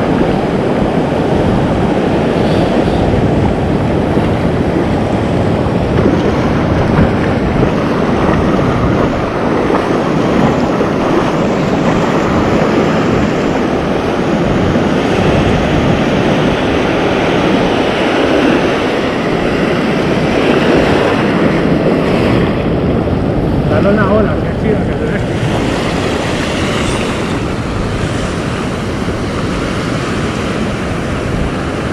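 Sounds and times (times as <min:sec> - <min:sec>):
surf breaking on beach: 0:00.0 - 0:31.9
wind buffeting microphone: 0:00.0 - 0:31.9.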